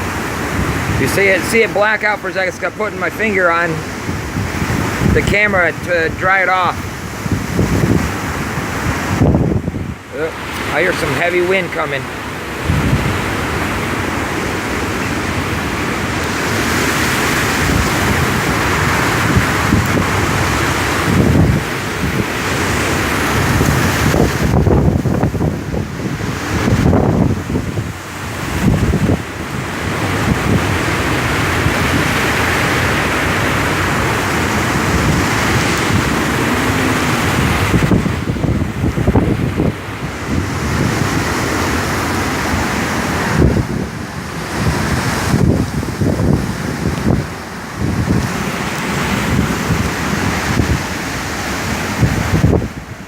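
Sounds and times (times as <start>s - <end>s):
strong wind rushing: 0.0s - 53.0s
wind buffeting microphone: 0.0s - 53.0s.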